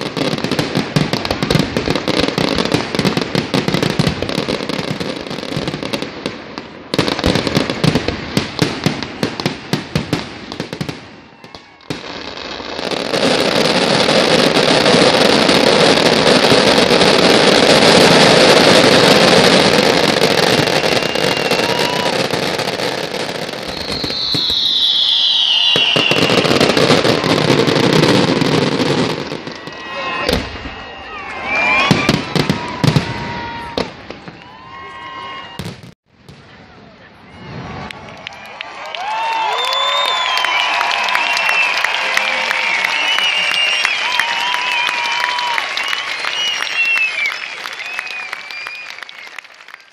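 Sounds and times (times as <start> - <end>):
fireworks bangs and crackles: 0.0 - 49.7
falling firework whistle: 6.9 - 36.4, 37.3 - 49.9.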